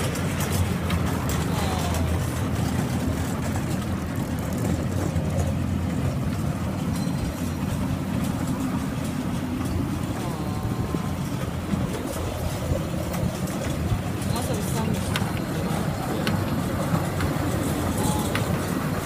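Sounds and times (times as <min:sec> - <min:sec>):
kiddie train low rumble: 0:00.0 - 0:19.0.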